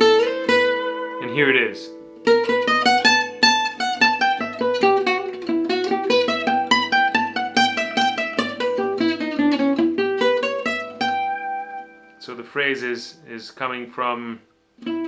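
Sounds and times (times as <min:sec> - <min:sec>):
acoustic guitar picked notes: 0:00.0 - 0:15.0.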